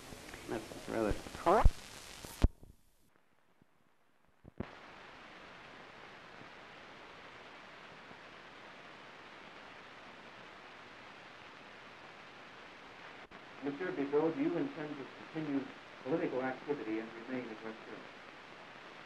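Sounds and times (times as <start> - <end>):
film soundtrack hiss: 0.0 - 19.0.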